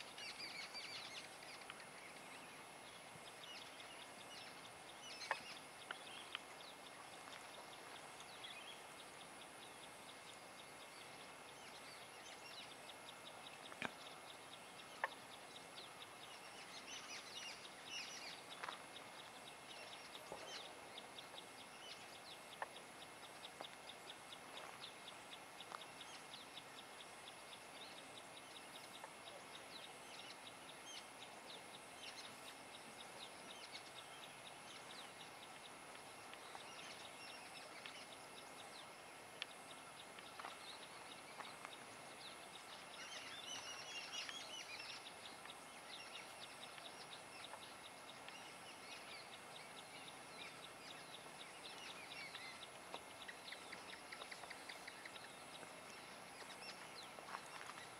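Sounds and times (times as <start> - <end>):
bird calls and chirps: 0.0 - 57.9
steady high hiss: 0.0 - 57.9.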